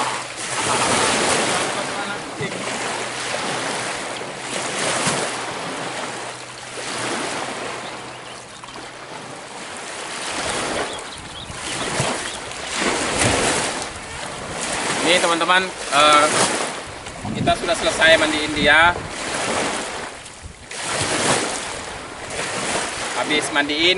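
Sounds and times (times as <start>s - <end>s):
wind on microphone: 0.0s - 6.2s, 6.8s - 23.4s
lake waves lapping on beach: 0.0s - 23.9s.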